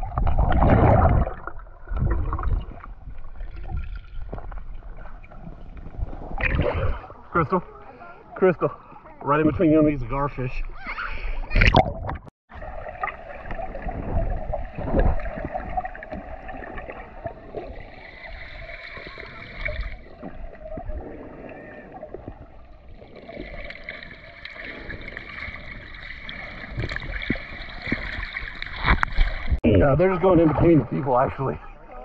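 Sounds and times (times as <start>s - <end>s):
low knocks and gurgles: 0.0s - 7.4s, 11.4s - 31.6s
underwater water rush: 0.0s - 8.5s, 11.2s - 31.9s.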